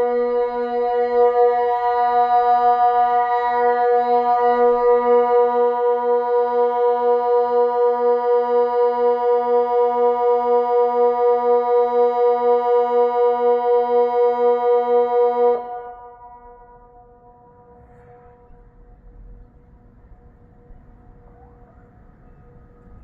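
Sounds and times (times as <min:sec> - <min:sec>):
electronic siren low wavering tone: 0:00.0 - 0:18.7.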